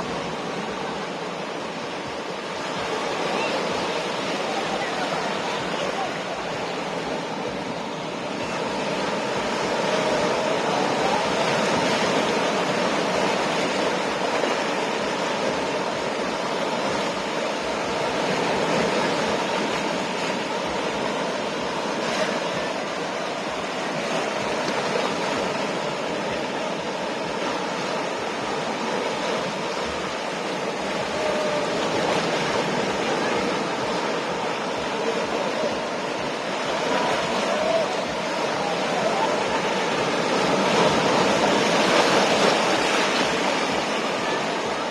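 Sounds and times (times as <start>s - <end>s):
ocean surf washing ashore: 0.0s - 44.9s.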